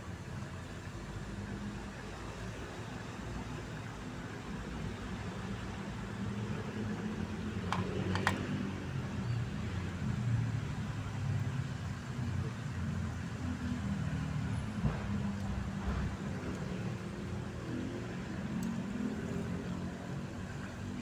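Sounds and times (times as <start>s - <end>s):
chicken frying in bubbling oil: 0.1s - 21.0s.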